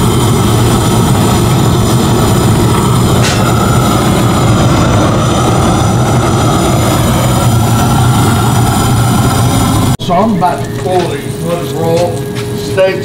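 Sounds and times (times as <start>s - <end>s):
torch flame roaring: 0.0s - 13.0s.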